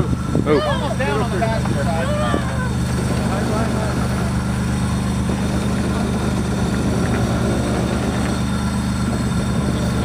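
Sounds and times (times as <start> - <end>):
suv engine running at low revs: 0.0 - 10.0.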